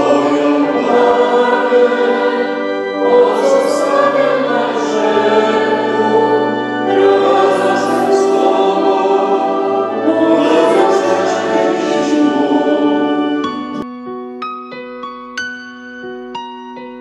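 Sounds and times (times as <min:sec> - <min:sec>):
church choir singing a hymn: 0:00.0 - 0:13.8.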